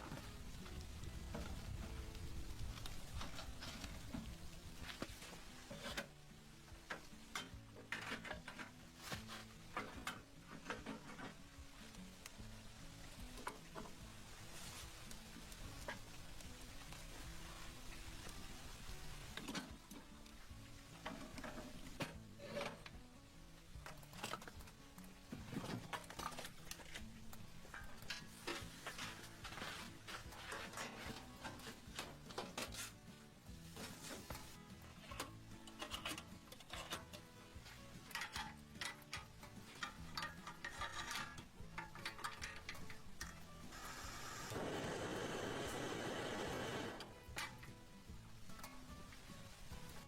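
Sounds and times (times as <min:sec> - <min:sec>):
quiet background music: 0:00.0 - 0:50.0
rustles: 0:00.0 - 0:50.0.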